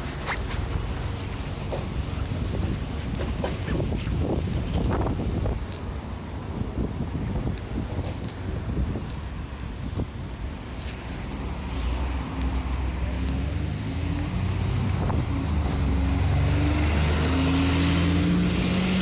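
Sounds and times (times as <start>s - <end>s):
bus diesel engine accelerating: 0.0s - 19.0s.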